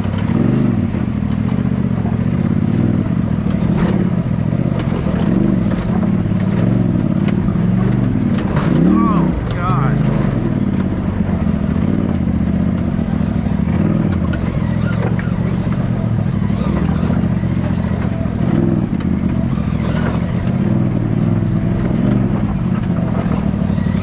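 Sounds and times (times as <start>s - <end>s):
engine running at low revs: 0.0s - 24.0s.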